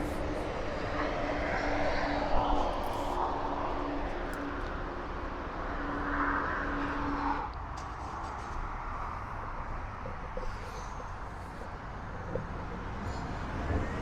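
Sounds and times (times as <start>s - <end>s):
motorway traffic noise: 0.0s - 14.0s.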